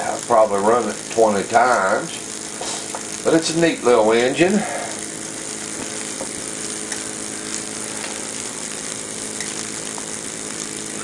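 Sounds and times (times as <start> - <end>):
steam engine humming: 0.0 - 11.0
steam hissing: 0.0 - 11.0.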